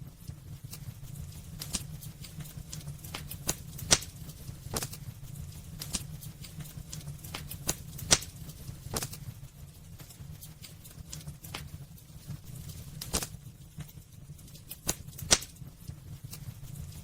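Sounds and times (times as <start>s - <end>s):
low rumble of flames: 0.0s - 17.0s
logs crackling and popping: 0.2s - 17.0s.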